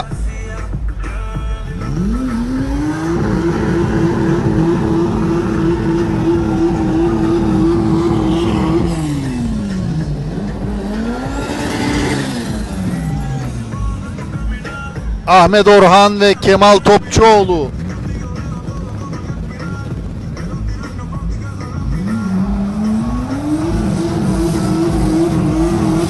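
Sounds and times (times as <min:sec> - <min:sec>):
race car engine revving: 0:01.6 - 0:15.0, 0:17.0 - 0:26.0.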